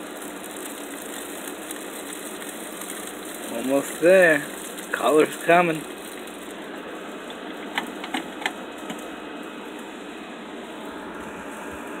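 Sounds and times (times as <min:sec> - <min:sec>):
meat sizzling and crackling: 0:00.0 - 0:12.0.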